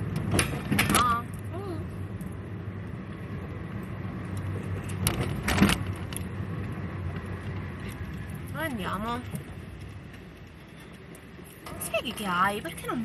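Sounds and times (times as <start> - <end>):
car engine and road hum: 0.0 - 13.0.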